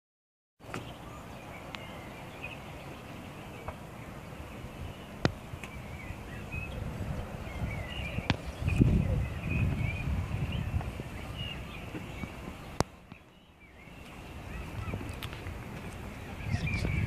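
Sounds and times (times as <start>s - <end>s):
small birds chirping: 0.6s - 17.0s
steady low rumble: 2.3s - 17.0s.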